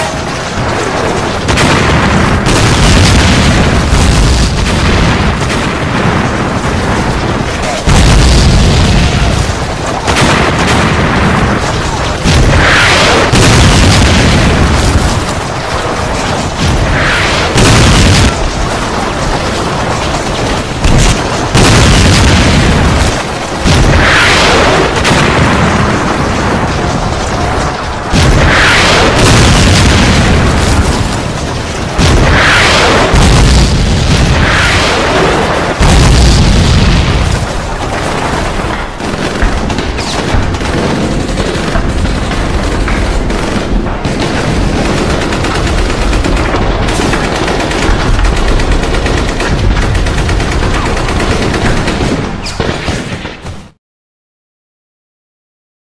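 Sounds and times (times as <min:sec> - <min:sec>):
heavy explosions with rumbling: 0:00.0 - 0:53.8.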